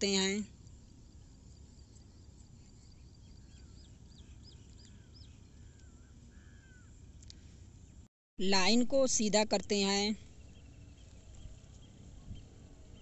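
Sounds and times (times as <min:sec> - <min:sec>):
birds chirping: 0:00.0 - 0:13.0
low room hum: 0:00.0 - 0:13.0.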